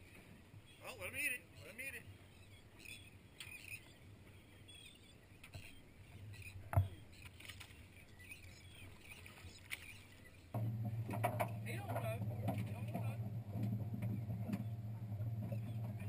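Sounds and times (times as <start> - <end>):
wind and sea: 0.0 - 16.0.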